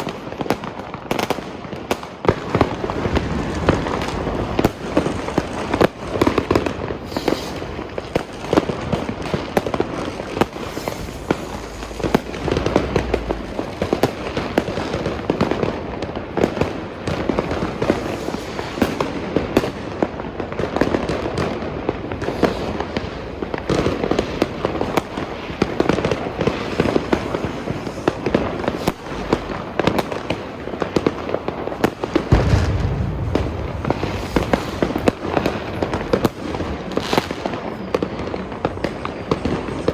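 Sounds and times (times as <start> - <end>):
fireworks bangs and crackles: 0.0 - 39.9
deep firework booms: 2.2 - 37.7.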